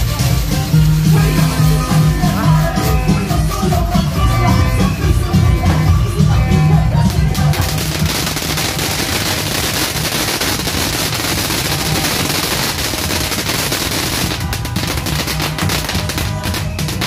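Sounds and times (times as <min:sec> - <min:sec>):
fireworks and firecrackers crackling: 0:00.0 - 0:17.0
music playing: 0:00.0 - 0:17.0.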